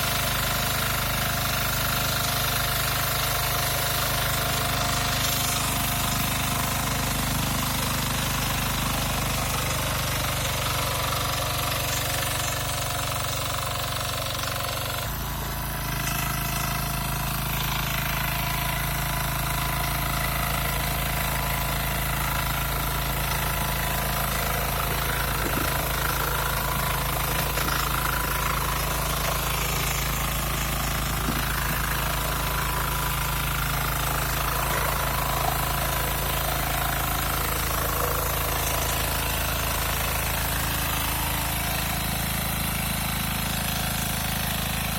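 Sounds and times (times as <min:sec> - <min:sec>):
tiller engine running: 0:00.0 - 0:44.9.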